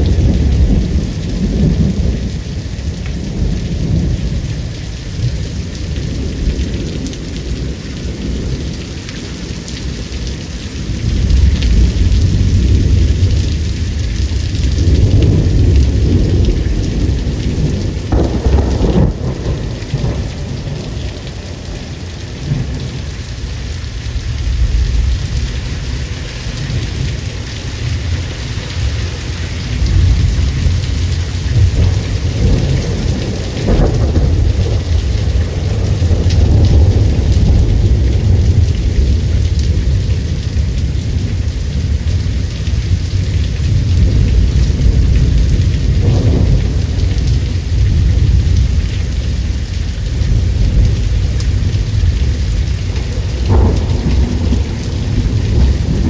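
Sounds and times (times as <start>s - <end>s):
heavy rain: 0.0s - 56.0s
low rolling thunder: 0.0s - 56.0s.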